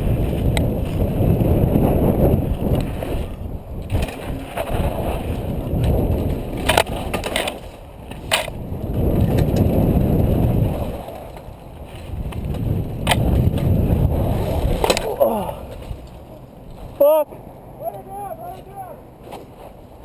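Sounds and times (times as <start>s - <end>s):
bike rattling clacks: 0.0s - 17.0s
wind on microphone: 0.0s - 17.1s
tyres rumbling on dirt: 0.0s - 18.0s.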